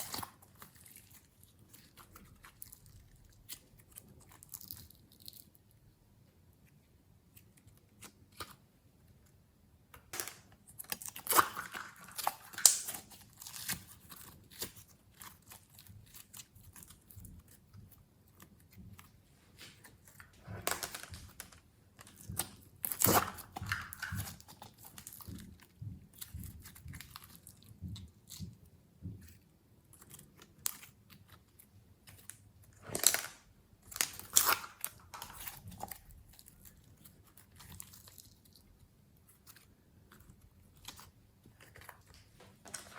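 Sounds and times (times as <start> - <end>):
slime crackling and squishing: 0.0 - 6.0, 10.6 - 42.9.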